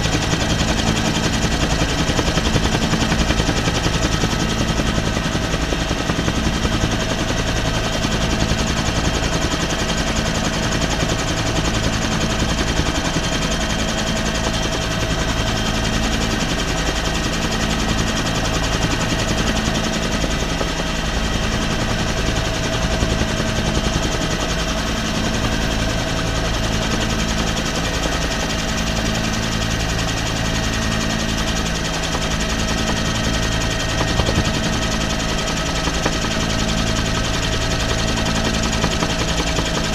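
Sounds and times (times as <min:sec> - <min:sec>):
helicopter rotor beat: 0:00.0 - 0:39.9
turbine whine: 0:00.0 - 0:39.9.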